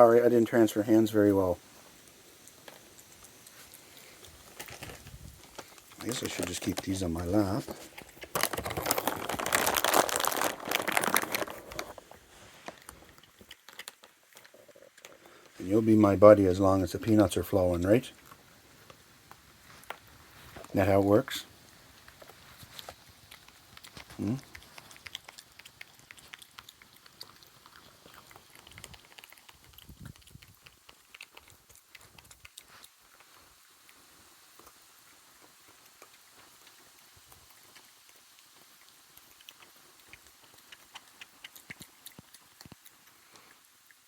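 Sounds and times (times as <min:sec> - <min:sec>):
peanut shells crinkling and rustling: 0:00.0 - 0:44.0.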